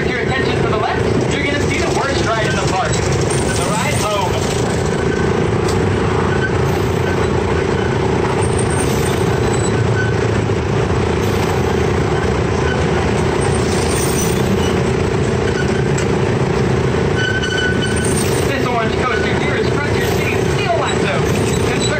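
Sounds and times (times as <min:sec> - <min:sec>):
train cars and wheels rumbling: 0:00.0 - 0:21.9
miniature train engine hum: 0:00.1 - 0:21.9.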